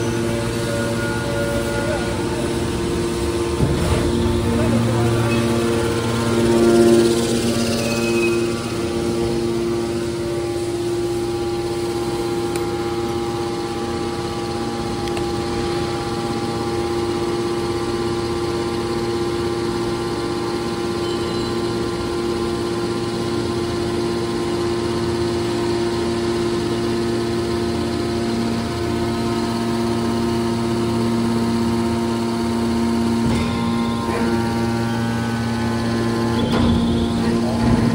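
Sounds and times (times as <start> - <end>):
hydraulic pump motors humming: 0.0 - 37.9.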